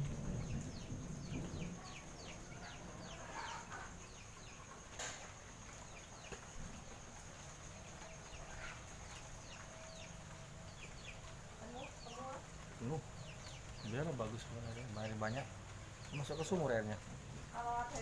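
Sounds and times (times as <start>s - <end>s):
small birds peeping: 0.0s - 18.0s.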